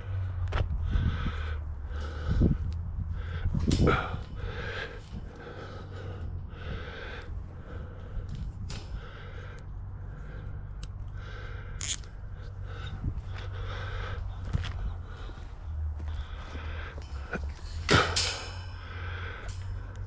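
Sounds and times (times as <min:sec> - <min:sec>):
heavy rhythmic breathing: 0:00.0 - 0:20.0
steady low rumble: 0:00.0 - 0:20.0.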